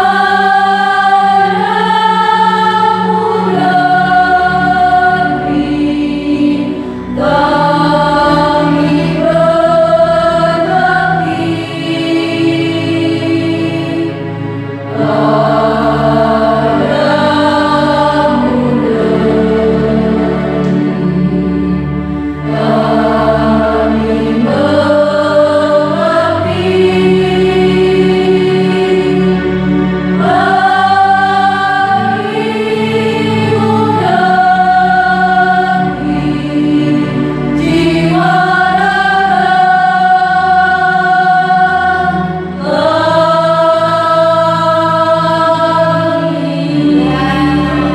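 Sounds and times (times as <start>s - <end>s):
choir singing sustained notes: 0.0s - 47.9s.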